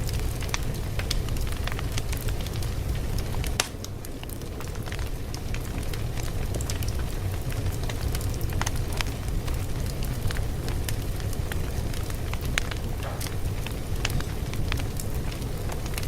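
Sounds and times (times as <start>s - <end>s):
fire crackling: 0.0s - 16.0s
sharp fire pops: 0.0s - 16.0s.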